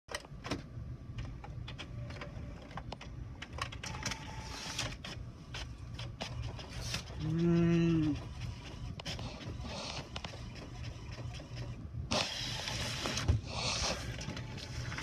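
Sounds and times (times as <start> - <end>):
faint printer whine: 0.1 - 15.0.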